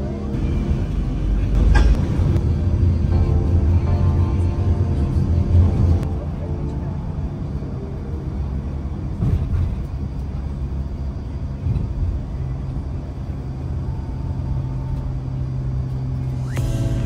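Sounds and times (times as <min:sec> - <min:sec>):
bus engine and road rumble: 0:00.0 - 0:17.0
steady low hum: 0:00.0 - 0:17.0.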